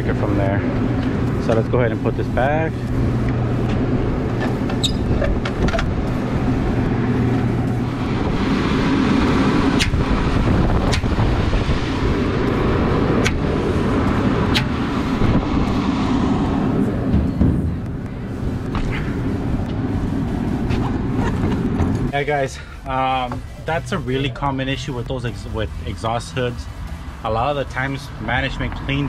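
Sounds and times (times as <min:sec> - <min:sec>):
exhaust hood fan running: 0:00.0 - 0:29.0.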